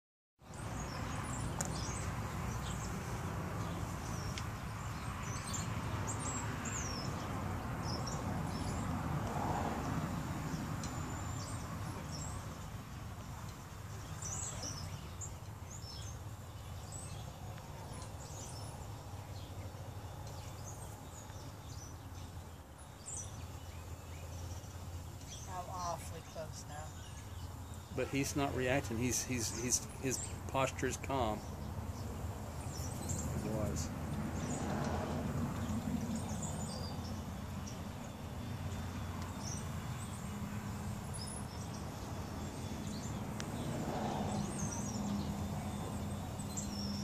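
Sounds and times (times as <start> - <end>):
small birds chirping: 0.4 - 47.0.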